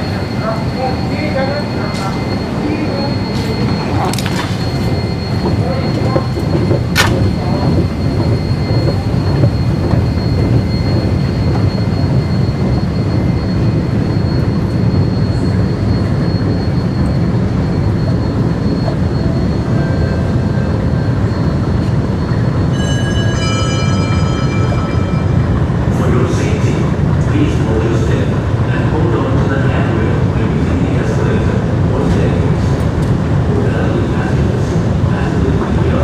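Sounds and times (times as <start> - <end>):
escalator rumbling: 0.0 - 36.0
faint high whine: 0.0 - 36.0.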